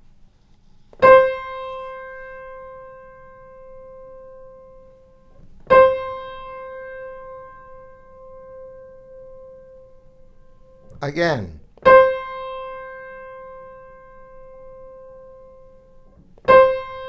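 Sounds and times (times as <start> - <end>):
piano note: 1.0 - 17.0.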